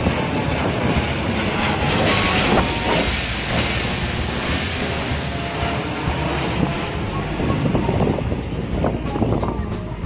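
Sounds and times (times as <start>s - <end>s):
jet airliner roaring overhead: 0.0s - 10.0s.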